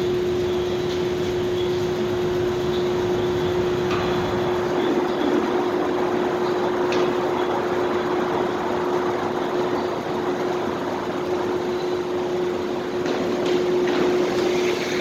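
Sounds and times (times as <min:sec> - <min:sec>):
constant hum with steady tone: 0:00.0 - 0:15.0.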